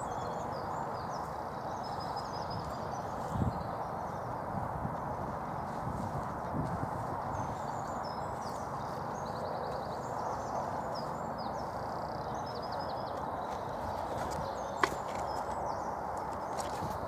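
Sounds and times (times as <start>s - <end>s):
outdoor background noise: 0.0s - 17.0s
songbirds trilling: 0.0s - 17.0s.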